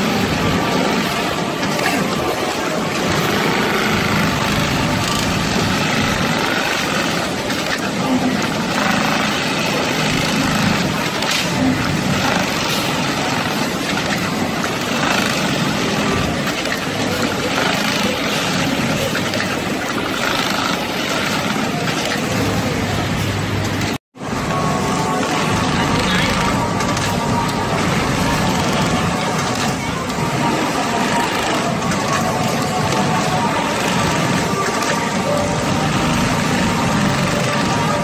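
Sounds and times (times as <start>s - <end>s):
sewing machine whirring: 0.0s - 38.0s.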